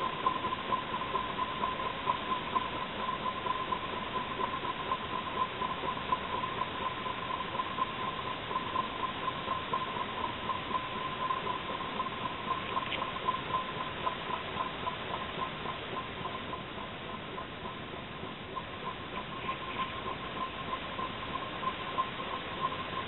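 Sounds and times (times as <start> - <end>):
rhythmic squeaking tick: 0.0 - 23.0
steady hiss: 0.0 - 23.0.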